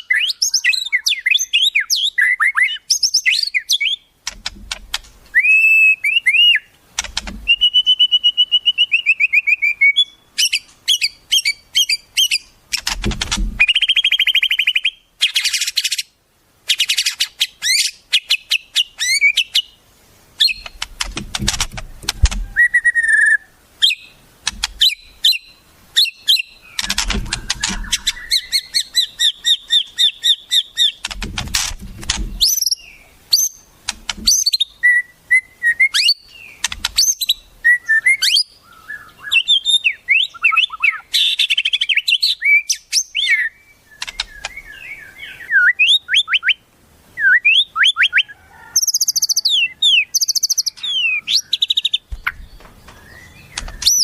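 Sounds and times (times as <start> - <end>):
harsh rattling bird calls: 0.0 - 35.2, 35.8 - 46.5, 48.2 - 54.0
songbirds chirping and trilling: 0.0 - 54.0.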